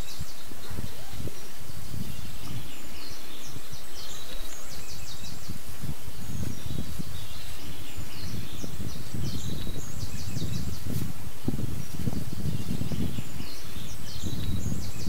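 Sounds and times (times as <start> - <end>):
birds singing: 0.0 - 15.0
steady outdoor hiss: 0.0 - 15.0.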